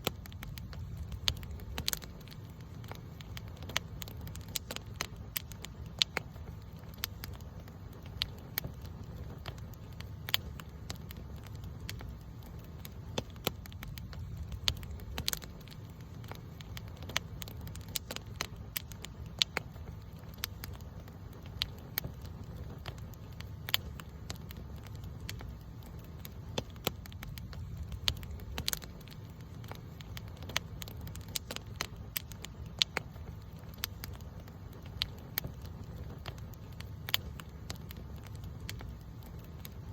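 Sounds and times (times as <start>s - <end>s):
campfire pops and snaps: 0.0s - 39.9s
low rumble of flames: 0.0s - 39.9s.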